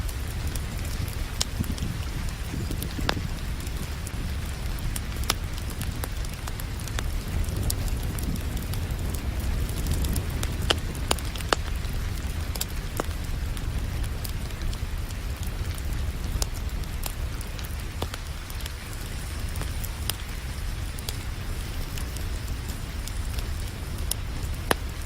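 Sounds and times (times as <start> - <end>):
low continuous rumble: 0.0 - 25.0
rain hissing: 0.0 - 25.0
wood fire crackling and popping: 0.0 - 25.0.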